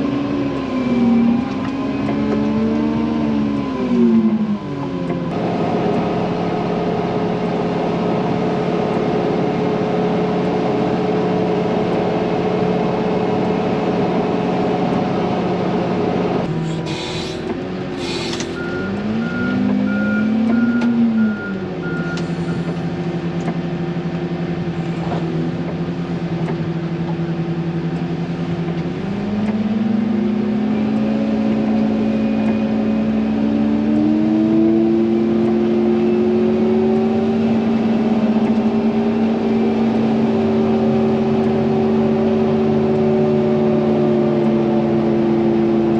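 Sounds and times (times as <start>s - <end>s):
heavy diesel engine under load: 0.0s - 45.9s.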